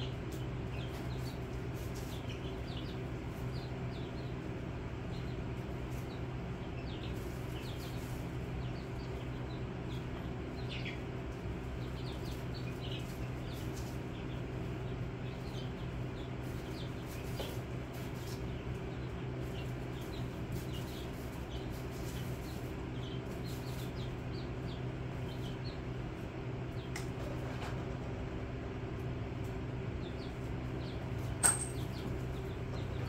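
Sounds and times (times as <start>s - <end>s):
chicks peeping: 0.0s - 33.0s
low electrical hum: 0.0s - 33.0s.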